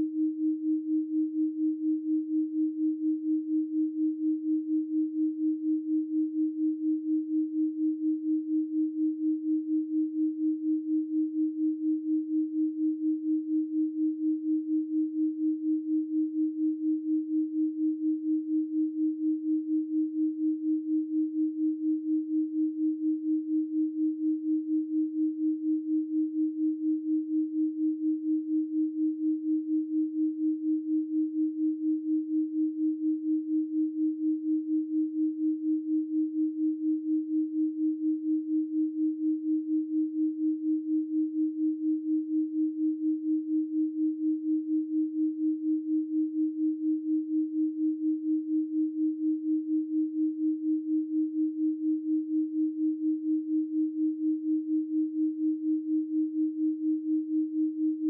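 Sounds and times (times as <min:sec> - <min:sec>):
pulsing sine tone: 0:00.0 - 0:58.0.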